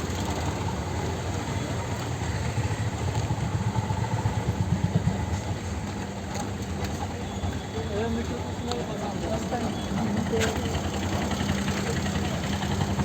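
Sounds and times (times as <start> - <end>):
engine puttering: 0.0 - 13.0
street traffic: 0.0 - 13.0.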